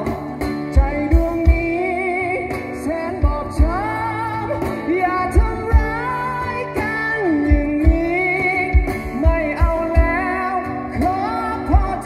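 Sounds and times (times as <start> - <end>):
drum kit with kick drum: 0.0 - 12.0
strummed acoustic guitars: 0.0 - 12.0.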